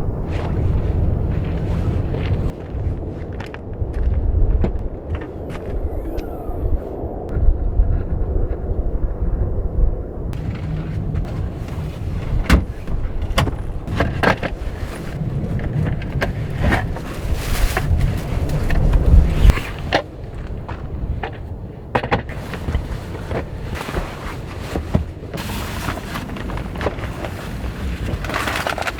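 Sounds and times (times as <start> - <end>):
wind rumbling on microphone: 0.0 - 28.9.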